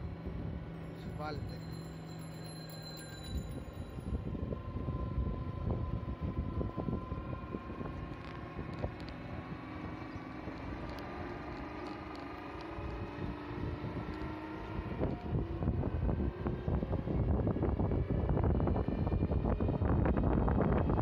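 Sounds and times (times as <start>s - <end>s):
vehicle engine and road noise: 0.0s - 21.0s
wind buffeting microphone: 2.3s - 21.0s.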